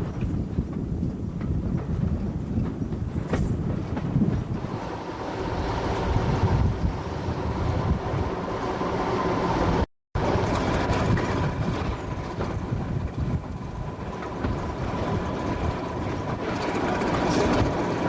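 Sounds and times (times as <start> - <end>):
steam locomotive rumble: 0.0 - 18.0
wind buffeting microphone: 0.0 - 18.0.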